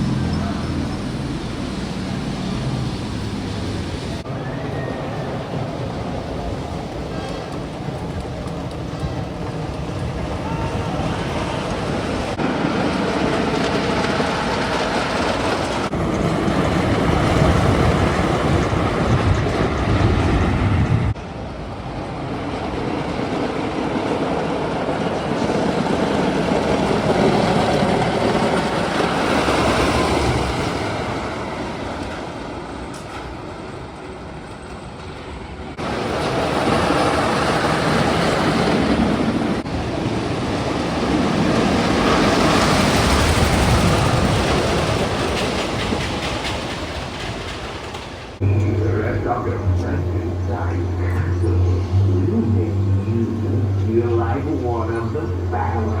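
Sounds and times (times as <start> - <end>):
roller coaster rumbling and clattering: 0.0 - 56.0.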